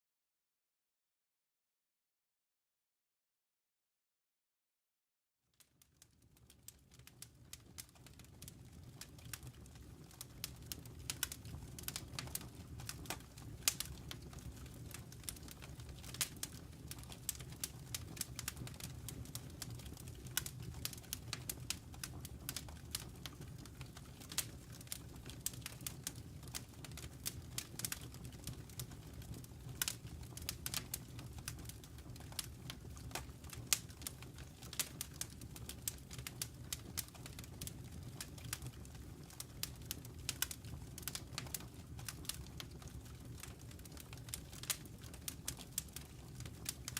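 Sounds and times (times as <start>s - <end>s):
wood fire crackling and popping: 5.6s - 46.9s.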